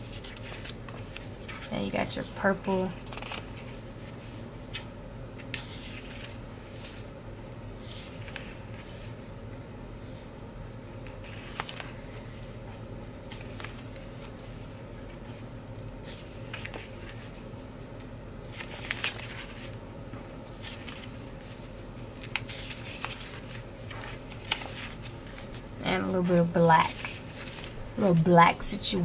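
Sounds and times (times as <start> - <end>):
paper pages rustling: 0.0 - 7.1, 7.8 - 9.3, 11.0 - 15.4, 16.0 - 17.7, 18.4 - 29.0.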